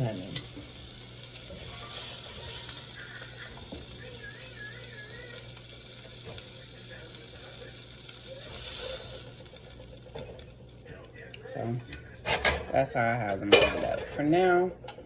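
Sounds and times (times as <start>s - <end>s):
oil sizzling in a skillet: 0.0s - 14.0s.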